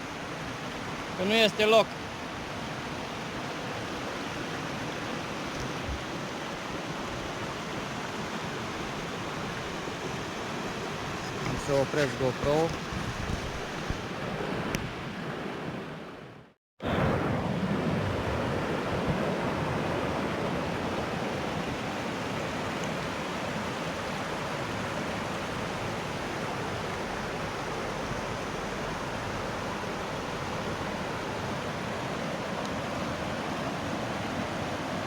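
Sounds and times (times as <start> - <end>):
river water rushing: 0.0 - 16.4, 17.0 - 35.0.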